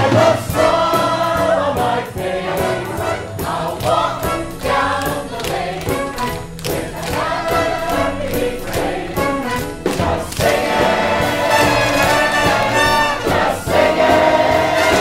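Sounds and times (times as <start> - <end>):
chorus singing musical number: 0.0 - 15.0
instrumental accompaniment: 0.0 - 15.0.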